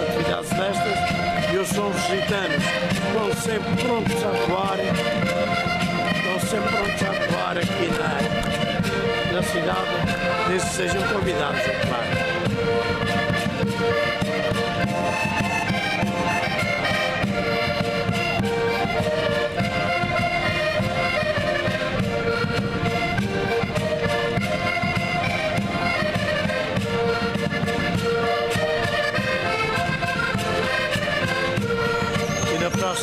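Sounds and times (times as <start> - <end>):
button accordions playing folk tune: 0.0 - 33.0.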